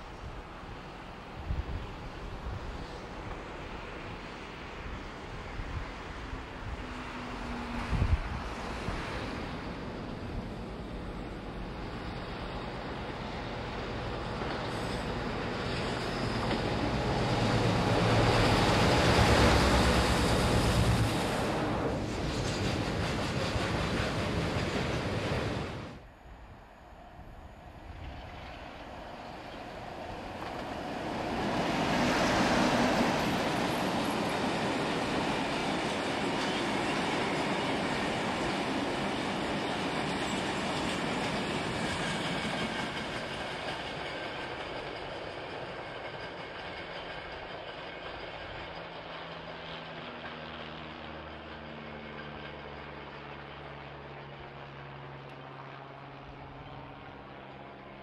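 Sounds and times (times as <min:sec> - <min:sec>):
freight train wheels on track: 0:00.0 - 0:26.1, 0:26.8 - 0:54.0
diesel locomotive engine hum: 0:00.0 - 0:58.0.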